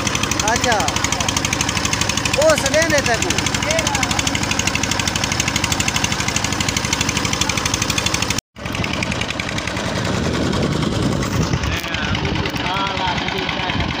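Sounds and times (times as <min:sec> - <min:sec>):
boat engine knocking: 0:00.0 - 0:14.0.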